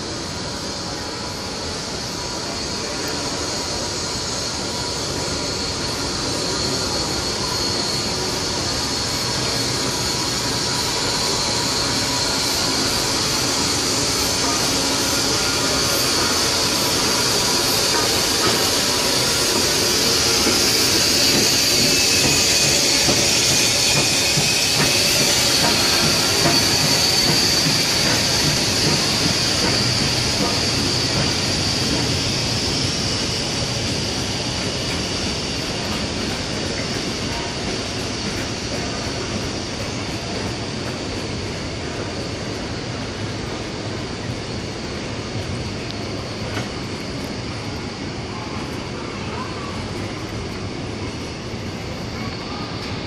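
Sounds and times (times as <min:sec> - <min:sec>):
steam hissing: 0:00.0 - 0:53.0
train carriages rumbling on rails: 0:00.0 - 0:53.0.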